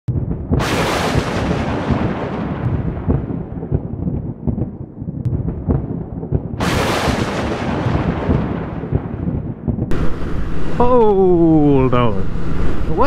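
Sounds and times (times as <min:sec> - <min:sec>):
sharp thunderclap: 0:00.1 - 0:10.8
thunder rumble: 0:00.1 - 0:13.0.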